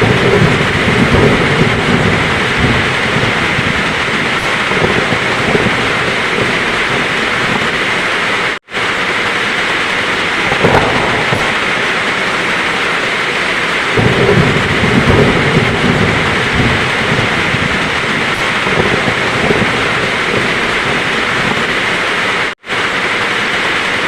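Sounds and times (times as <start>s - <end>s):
heavy rain: 0.0s - 24.0s
thunder rumble: 0.0s - 24.0s.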